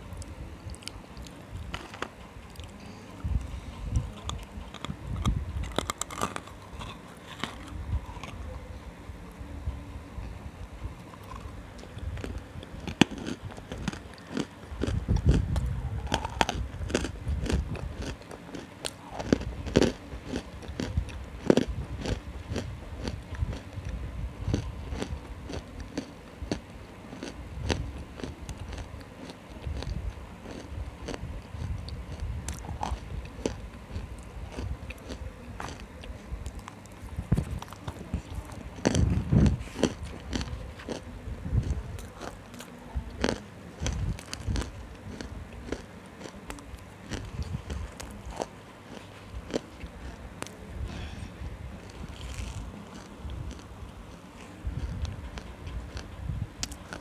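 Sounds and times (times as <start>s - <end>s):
crunchy food chewing: 0.0s - 8.6s, 10.2s - 57.0s.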